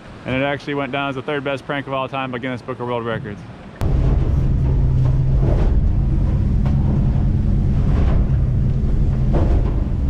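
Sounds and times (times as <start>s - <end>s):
boat engine drone: 0.0s - 10.0s
water rushing past hull: 0.0s - 10.0s.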